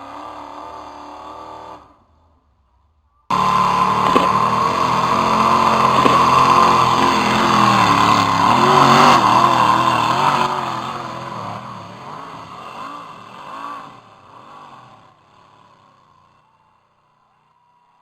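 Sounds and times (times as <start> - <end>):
tractor engine running hard: 0.0 - 2.4, 3.3 - 17.8.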